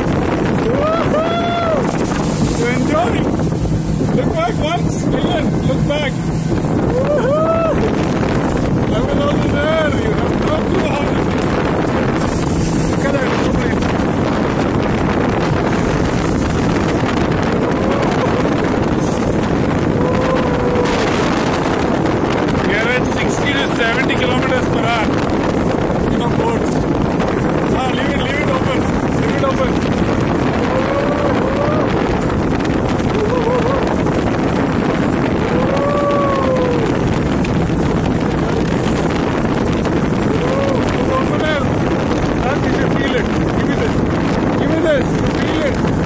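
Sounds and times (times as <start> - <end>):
rushing water: 0.0 - 46.0
speedboat engine: 0.0 - 46.0
wind buffeting microphone: 0.0 - 46.0.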